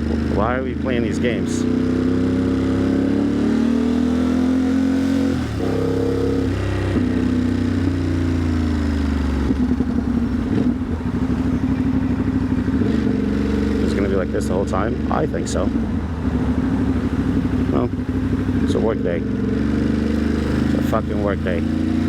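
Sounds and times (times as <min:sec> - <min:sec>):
motorcycle engine at low speed: 0:00.0 - 0:22.0.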